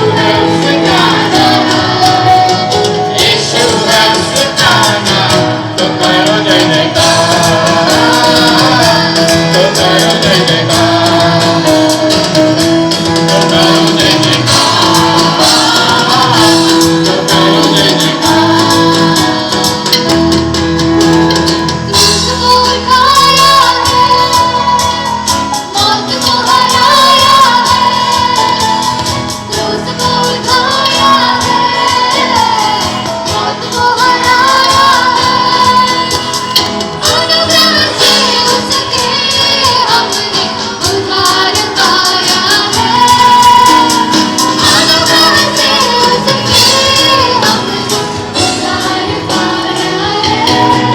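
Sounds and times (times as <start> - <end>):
musical backing: 0.0 - 50.9.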